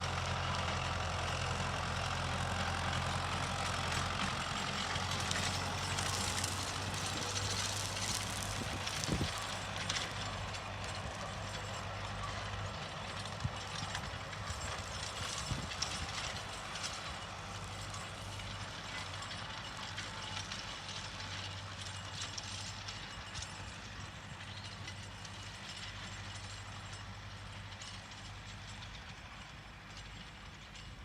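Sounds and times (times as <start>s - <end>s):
tractor engine hum: 0.0s - 31.0s
mower clattering and rattling: 0.1s - 31.0s.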